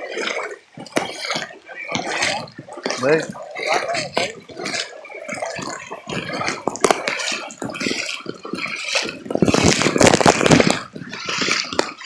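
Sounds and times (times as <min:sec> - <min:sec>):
floodwater splashing and sloshing: 0:00.0 - 0:12.0.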